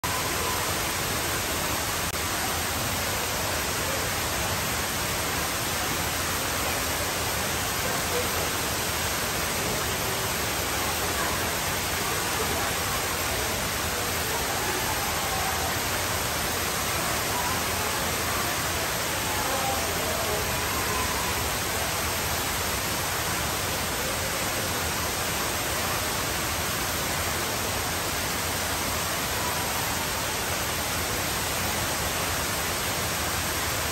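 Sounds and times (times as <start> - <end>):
faint voices: 0.0 - 33.9
waterfall rushing: 0.0 - 33.9.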